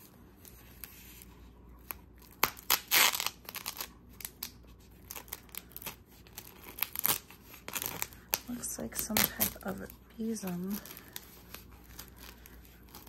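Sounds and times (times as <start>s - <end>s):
wrapping crinkling and rustling: 0.0s - 13.0s.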